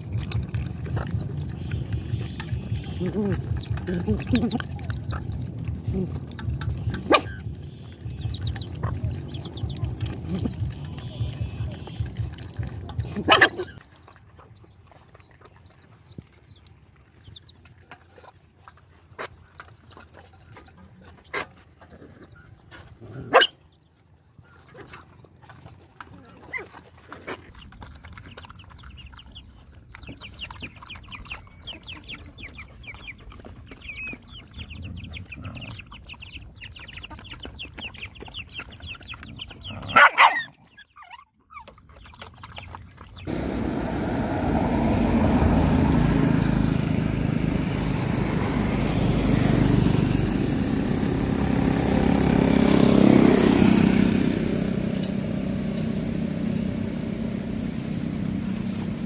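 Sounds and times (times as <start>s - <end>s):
dogs chewing and slurping: 0.0s - 59.0s.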